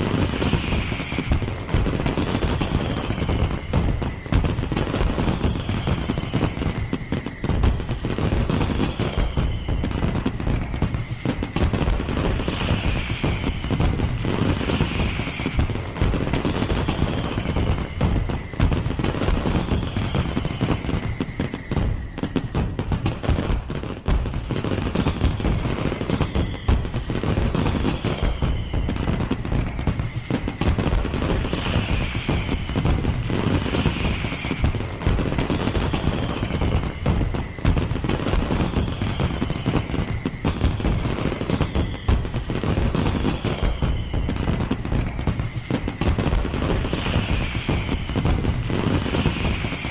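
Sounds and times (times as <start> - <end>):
firework falling whistles: 0.0 - 49.9
fireworks bangs and crackles: 0.0 - 49.9.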